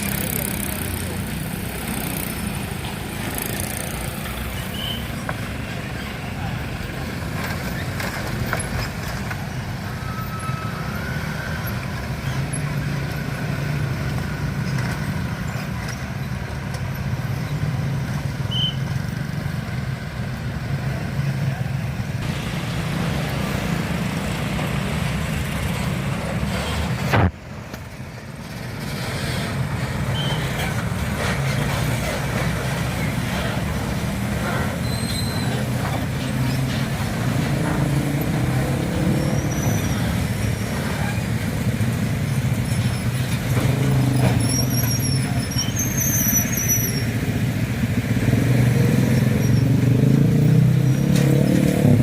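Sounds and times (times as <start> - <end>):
truck diesel engines: 0.0 - 52.0.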